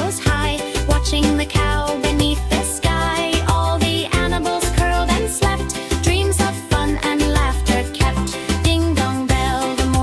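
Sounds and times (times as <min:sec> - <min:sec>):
upbeat children's song: 0:00.0 - 0:10.0.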